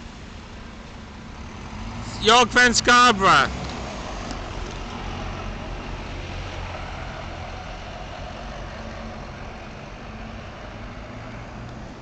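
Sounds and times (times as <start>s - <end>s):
bus engine pulling away: 0.0s - 12.0s
traffic noise: 0.0s - 12.0s.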